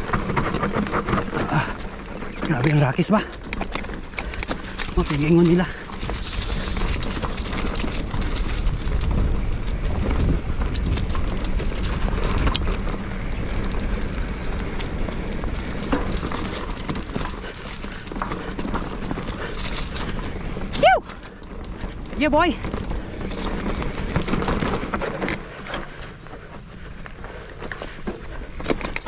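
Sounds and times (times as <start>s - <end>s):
bike rattling and knocking: 0.0s - 29.0s
tyres crunching over loose stones: 0.0s - 29.0s
wind buffeting microphone: 0.0s - 29.0s.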